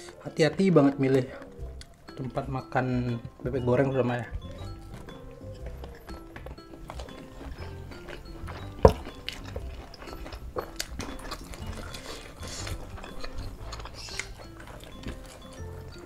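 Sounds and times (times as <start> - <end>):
chewing: 0.0 - 2.4, 4.3 - 16.0
crackles and clicks of bones: 0.0 - 3.3, 4.6 - 16.0
soft background music: 0.0 - 16.0.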